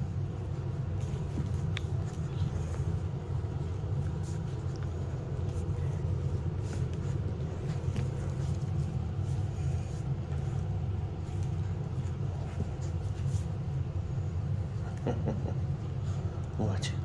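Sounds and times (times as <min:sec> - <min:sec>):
steady low machine rumble: 0:00.0 - 0:17.0.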